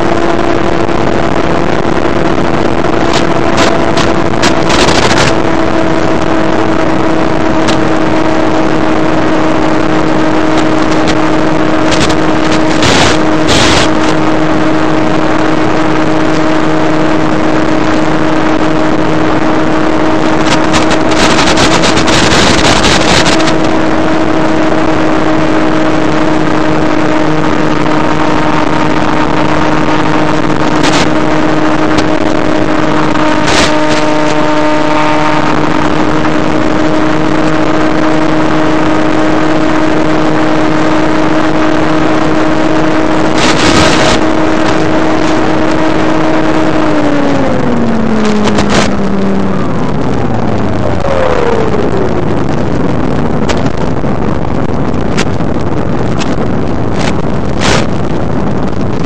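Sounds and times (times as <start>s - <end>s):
electric motor and propeller drone: 0.0s - 59.0s
radio static bursts: 0.6s - 16.4s, 17.3s - 38.0s, 42.2s - 59.0s.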